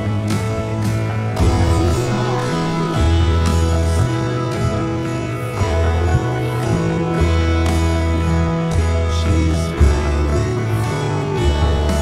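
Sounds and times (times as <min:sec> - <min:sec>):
plucked-string melody with bass: 0:00.0 - 0:12.0.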